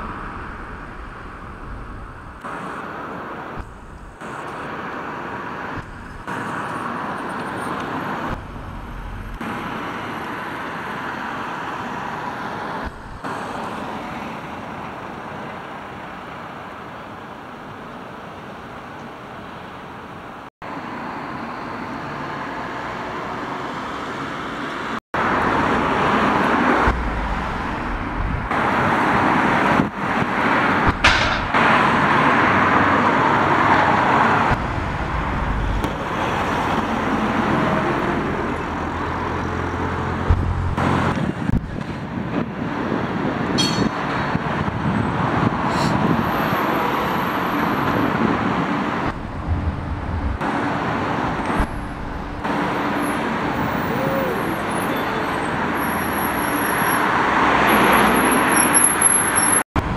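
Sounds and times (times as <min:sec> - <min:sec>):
passing road traffic: 0:00.0 - 0:59.9.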